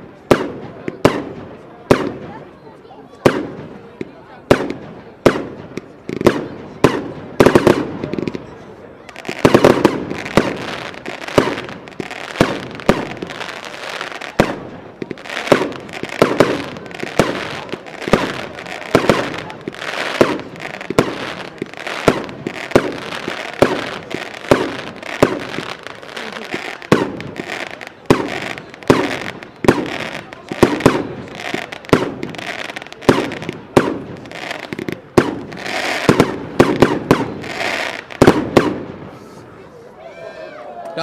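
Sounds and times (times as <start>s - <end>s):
fireworks bangs: 0.0s - 39.4s
fireworks crackle: 0.2s - 39.4s.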